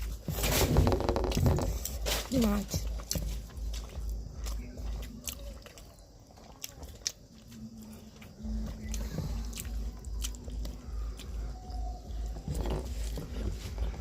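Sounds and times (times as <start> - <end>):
chewing food: 1.0 - 14.0.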